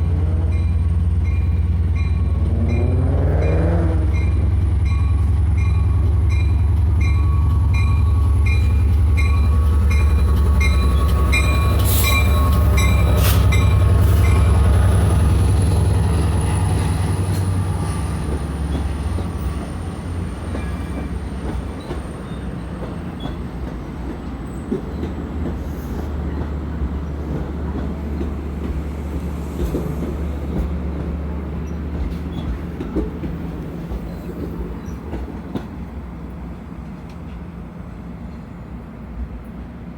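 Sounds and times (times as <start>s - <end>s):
diesel locomotive engine rumbling: 0.0s - 39.9s
railcar wheel noise: 0.0s - 39.9s.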